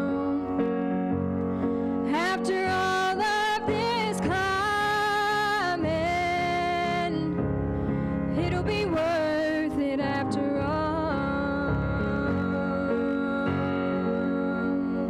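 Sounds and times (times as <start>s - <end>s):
woman singing: 0.0s - 1.2s, 2.1s - 7.5s, 8.3s - 15.0s
piano: 0.0s - 15.0s.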